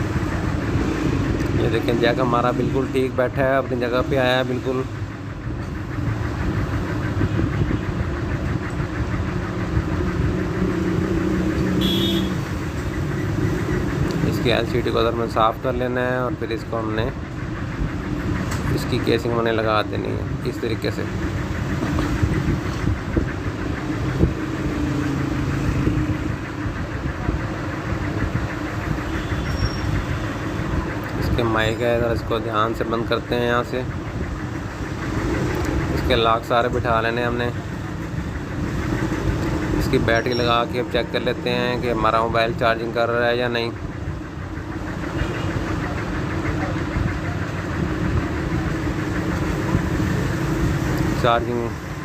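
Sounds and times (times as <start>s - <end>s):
low mechanical rumble: 0.0s - 52.0s.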